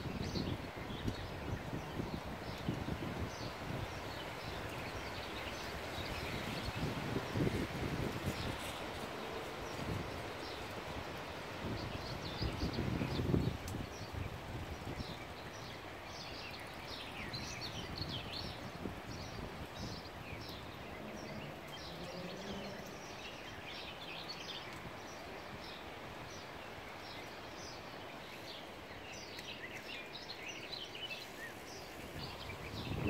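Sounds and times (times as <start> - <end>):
small birds chirping: 0.0 - 33.0
river flowing: 0.6 - 12.4, 14.4 - 33.0.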